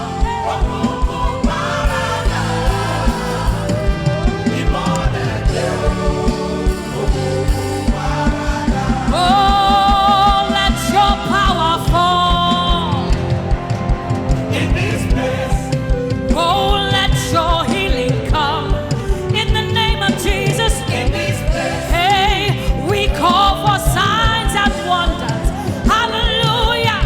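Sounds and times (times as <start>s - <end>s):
band with drums and bass: 0.0s - 27.0s
voices singing gospel: 0.0s - 27.0s.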